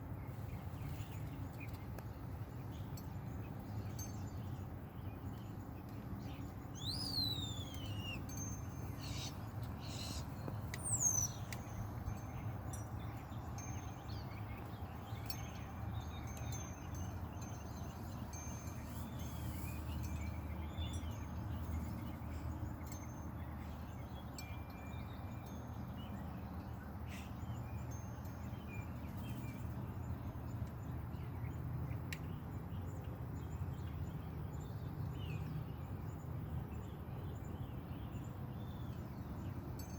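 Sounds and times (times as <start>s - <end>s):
birds chirping and whistling: 0.2s - 35.8s.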